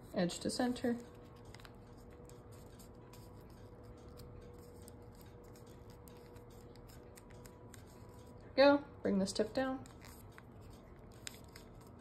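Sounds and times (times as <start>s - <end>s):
paper being folded by hand: 0.1s - 8.4s, 9.8s - 12.0s
small paper ticks and rustles: 0.6s - 8.5s, 9.8s - 12.0s.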